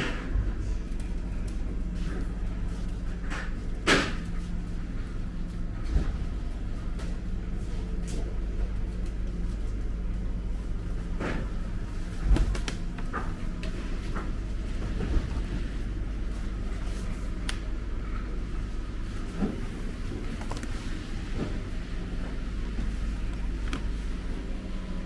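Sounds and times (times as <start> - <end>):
refrigerated cases humming: 0.0 - 25.0.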